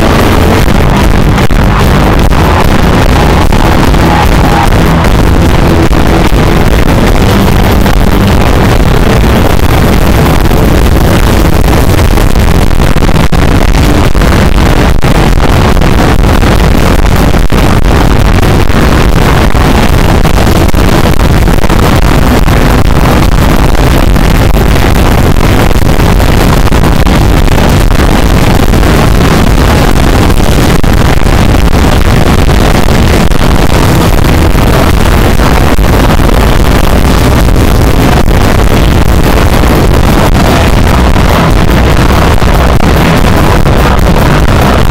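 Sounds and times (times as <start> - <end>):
distorted live rock band: 0.0 - 44.9.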